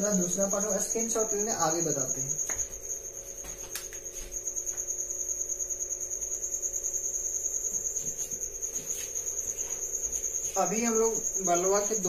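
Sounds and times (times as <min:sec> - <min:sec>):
cricket trilling: 0:00.0 - 0:12.0
steady low hum: 0:00.0 - 0:12.0.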